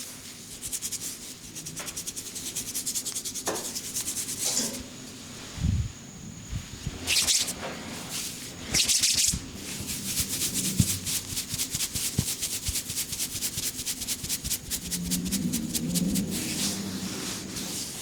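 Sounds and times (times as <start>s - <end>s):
fast patter of hand strokes: 0.0s - 4.4s, 7.0s - 7.6s, 8.2s - 18.0s
hands rubbing through hair: 0.2s - 4.4s, 7.0s - 18.0s.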